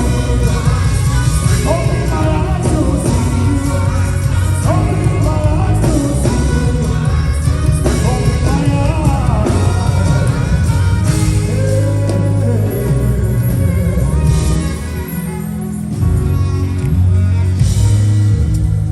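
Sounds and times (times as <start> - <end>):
guitar: 0.0 - 18.9
heavy bass line: 0.0 - 18.9
worship band music: 0.0 - 18.9.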